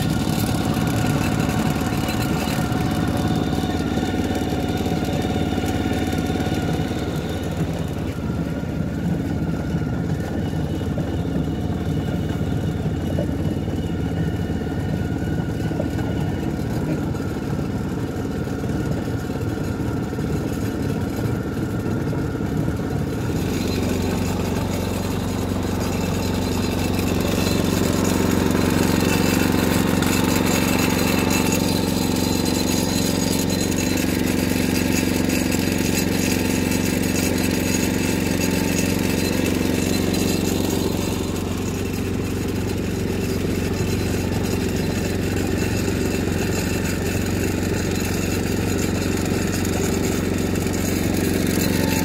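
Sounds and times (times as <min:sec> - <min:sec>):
small engine running: 0:00.0 - 0:52.0.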